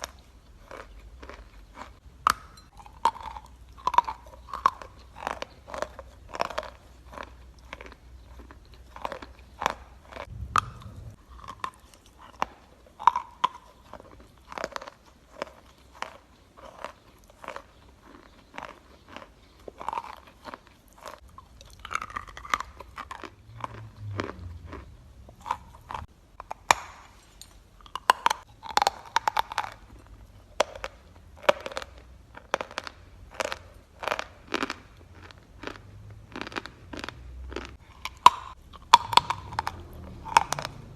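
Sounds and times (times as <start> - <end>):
chalk being chewed: 0.0 - 26.1, 28.6 - 40.9.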